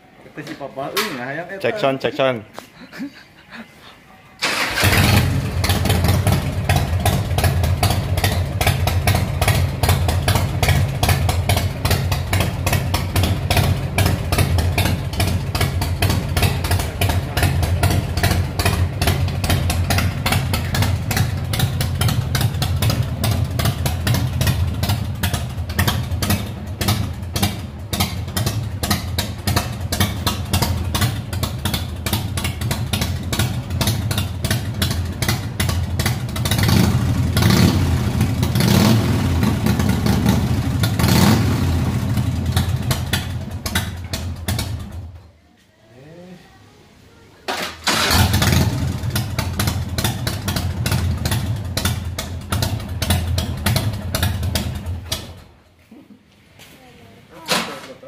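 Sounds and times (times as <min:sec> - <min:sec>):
motorcycle engine idling: 0:04.5 - 0:45.2, 0:47.9 - 0:55.6.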